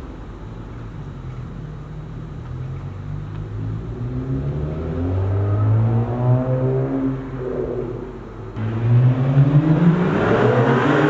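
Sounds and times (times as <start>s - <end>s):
car exhaust drone: 0.0s - 11.0s.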